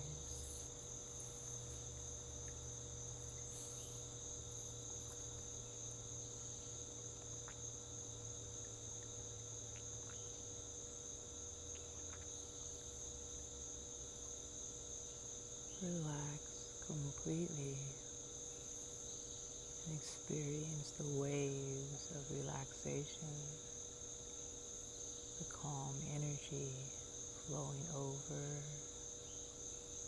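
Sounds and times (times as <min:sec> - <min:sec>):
crickets chirring: 0:00.0 - 0:30.0
faint low hum: 0:00.0 - 0:30.0.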